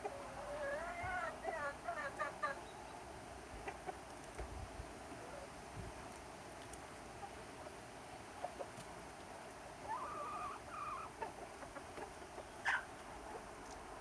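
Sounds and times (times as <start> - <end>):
chickens vocalising softly: 0.0 - 5.6, 6.9 - 13.8.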